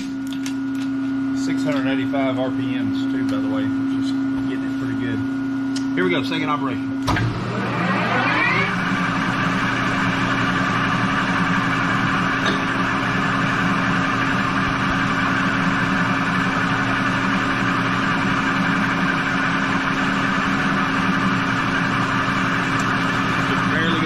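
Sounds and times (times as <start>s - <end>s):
lathe running with whine: 0.8s - 24.0s.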